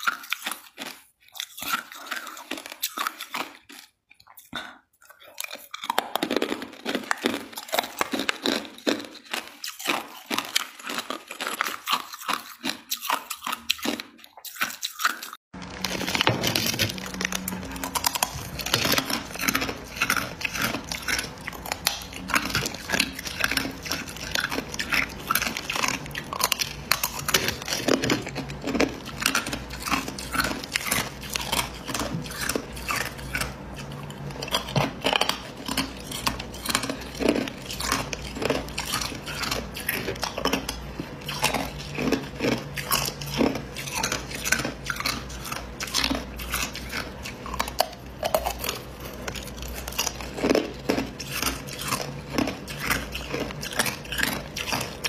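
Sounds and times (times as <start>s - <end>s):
ice chewed with crunches: 0.0s - 55.0s.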